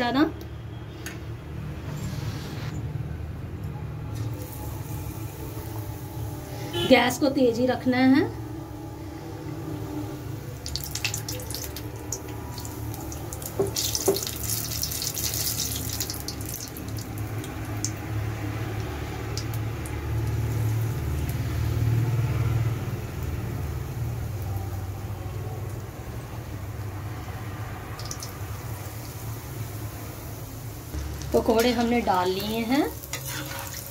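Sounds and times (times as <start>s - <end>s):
batter frying in hot oil: 4.1s - 8.2s, 8.9s - 33.9s.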